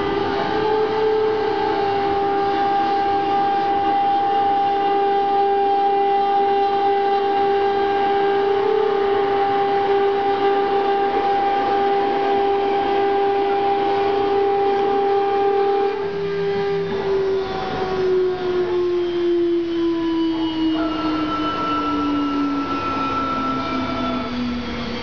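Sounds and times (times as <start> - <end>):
router spindle high whine: 0.0 - 25.0.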